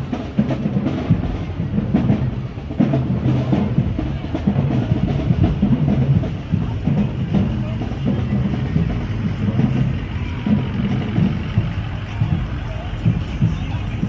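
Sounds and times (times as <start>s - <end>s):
bass drums: 0.0s - 14.0s
snare drums: 0.0s - 14.0s.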